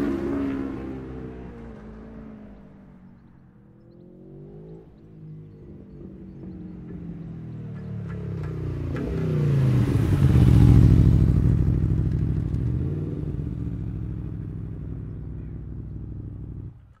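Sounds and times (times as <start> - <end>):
motorcycle passing by: 0.0 - 17.0.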